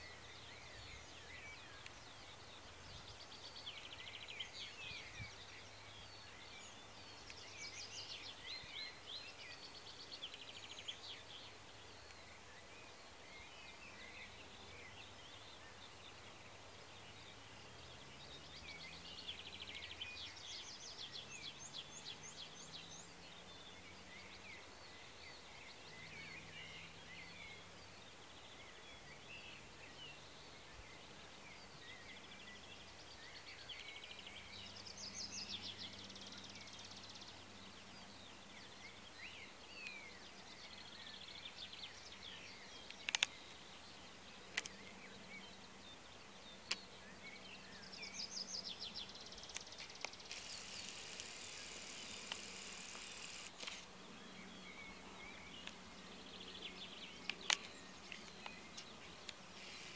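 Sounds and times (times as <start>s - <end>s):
low outdoor hiss: 0.0s - 59.9s
songbirds chirping and trilling: 0.0s - 59.9s.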